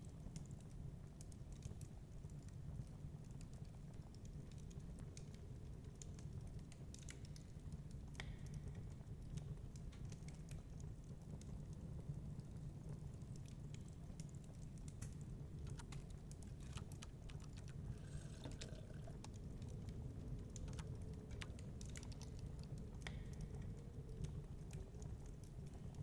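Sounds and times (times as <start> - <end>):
wood fire crackling: 0.1 - 26.0.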